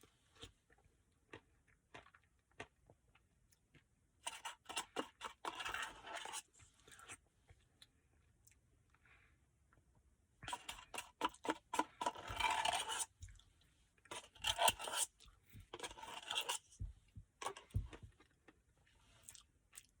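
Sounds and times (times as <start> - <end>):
close-miked eating crunching: 0.3 - 8.6, 10.4 - 20.0.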